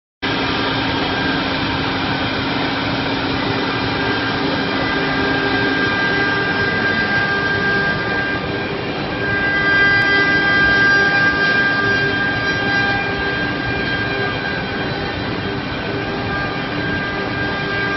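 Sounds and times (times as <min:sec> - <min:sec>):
router spindle whine: 0:00.3 - 0:17.9.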